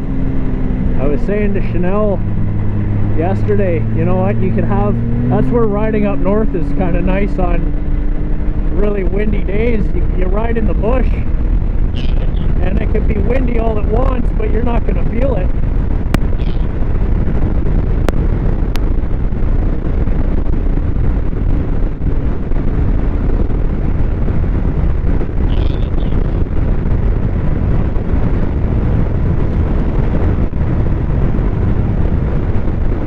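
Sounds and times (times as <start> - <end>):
snowmobile engine running: 0.0 - 33.0
wind buffeting microphone: 0.0 - 33.0.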